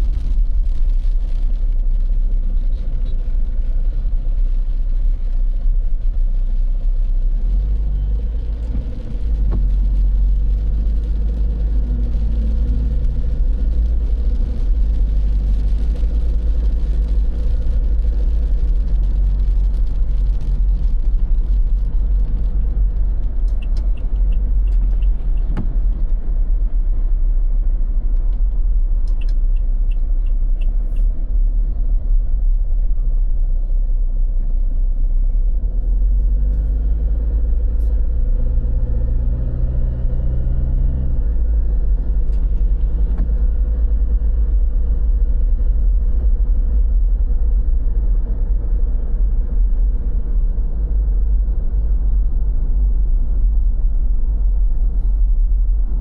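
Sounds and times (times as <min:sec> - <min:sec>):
heavy road traffic rumble: 0:00.0 - 0:56.0
vehicle engine hum: 0:00.0 - 0:56.0.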